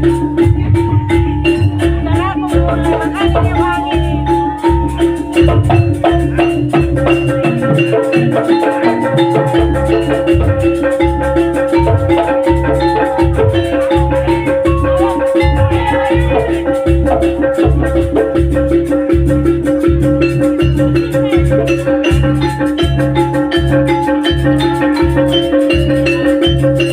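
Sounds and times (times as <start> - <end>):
marimba melody: 0.0 - 26.9
pulsing bass beat: 0.0 - 26.9.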